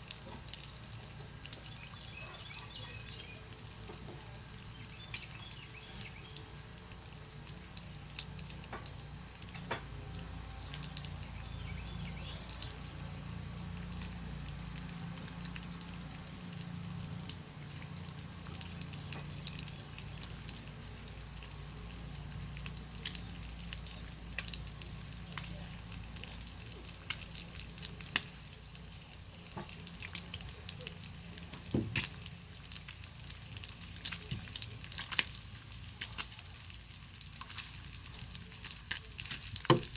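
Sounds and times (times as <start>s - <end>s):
bacon sizzling: 0.0s - 39.9s
fire crackling and popping: 0.0s - 39.9s.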